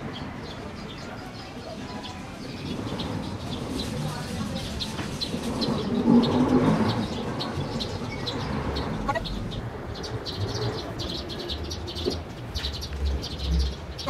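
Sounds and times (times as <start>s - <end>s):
city street rumble: 0.0s - 14.0s
small birds chirping: 0.0s - 14.0s.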